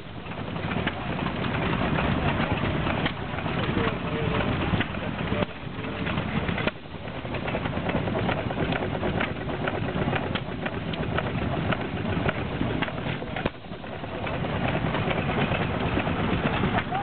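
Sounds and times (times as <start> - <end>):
stationary gas engine clicks and pops: 0.0 - 17.0
steady noisy background: 0.0 - 17.0.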